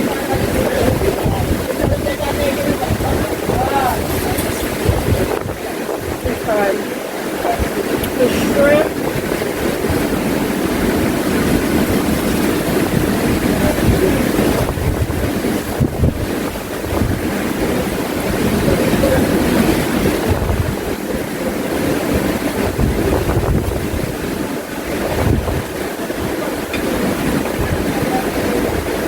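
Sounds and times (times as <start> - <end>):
surf rushing: 0.0 - 29.0
wind buffeting microphone: 0.0 - 29.0.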